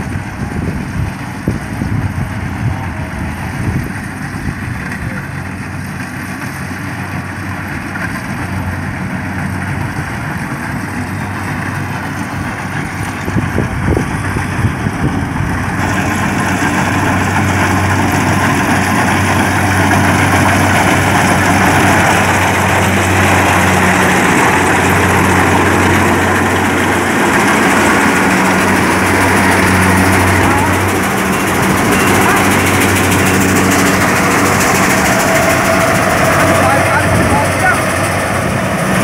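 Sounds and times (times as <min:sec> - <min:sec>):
combine harvester engine drone: 0:00.0 - 0:39.0.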